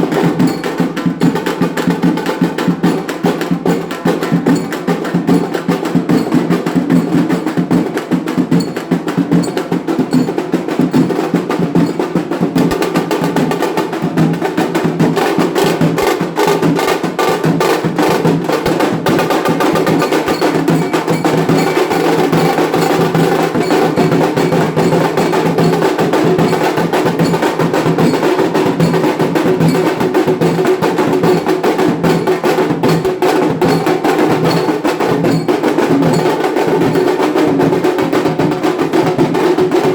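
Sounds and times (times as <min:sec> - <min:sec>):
fast loud drumming: 0:00.0 - 0:39.9.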